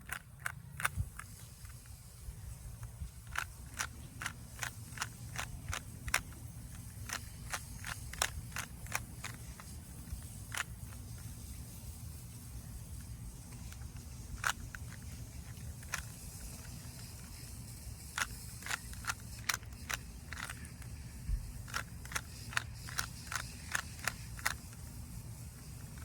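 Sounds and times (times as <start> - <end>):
plastic puzzle cube clicking: 0.0 - 26.0.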